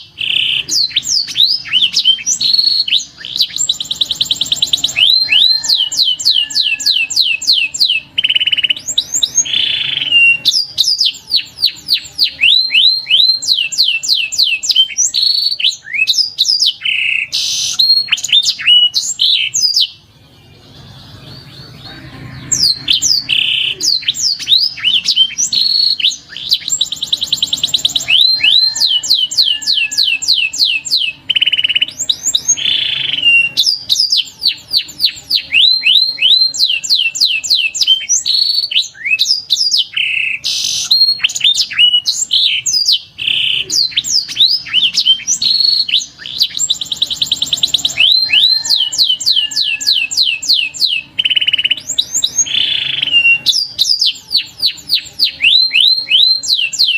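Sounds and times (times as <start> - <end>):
canary singing trills and whistles: 0.0 - 56.9.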